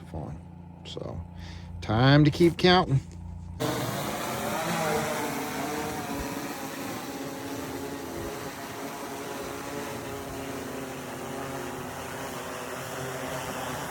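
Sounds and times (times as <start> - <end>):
small engine humming: 0.0 - 13.9.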